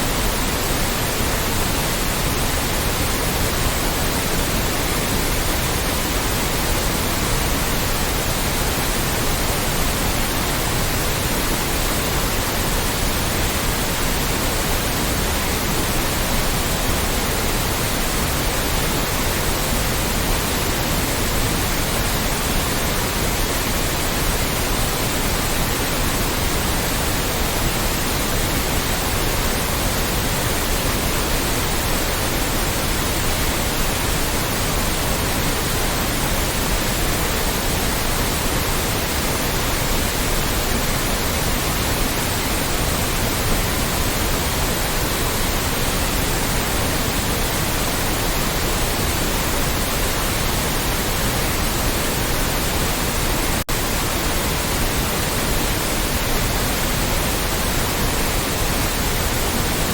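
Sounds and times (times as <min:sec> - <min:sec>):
loud white noise: 0:00.0 - 0:59.9.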